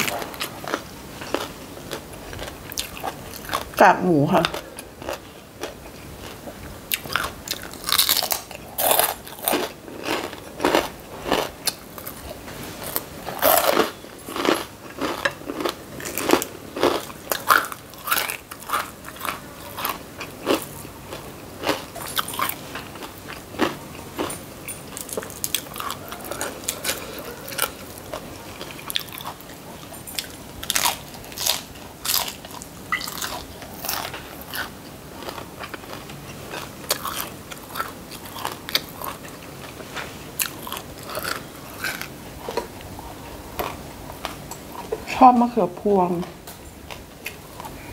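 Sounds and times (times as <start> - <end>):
crunchy food being chewed: 0.0 - 45.0, 46.8 - 47.9.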